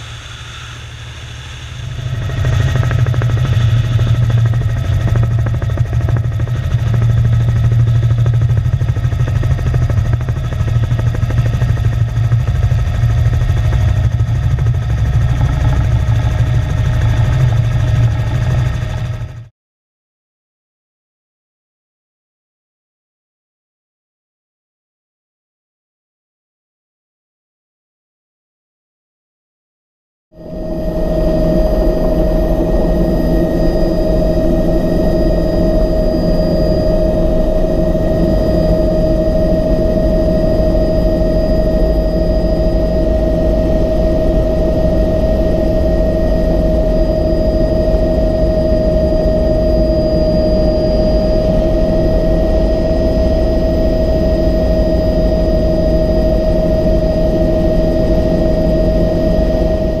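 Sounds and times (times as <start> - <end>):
helicopter cabin whine: 0.0 - 19.5, 30.3 - 60.0
helicopter engine and rotor drone: 0.0 - 19.5, 30.3 - 60.0.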